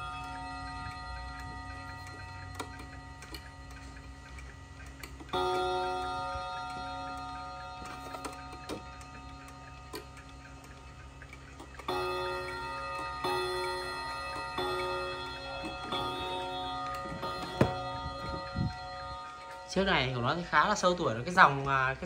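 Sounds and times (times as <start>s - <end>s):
clock ticking and clicks: 0.0s - 18.3s
clock striking gong: 0.0s - 21.6s.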